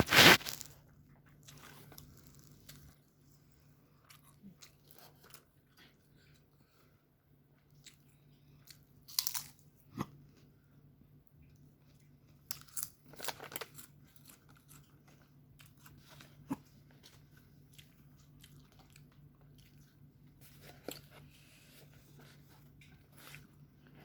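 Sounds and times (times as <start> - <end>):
person chewing and crunching food: 0.0 - 10.6, 11.2 - 24.0
faint low hum: 0.0 - 24.0.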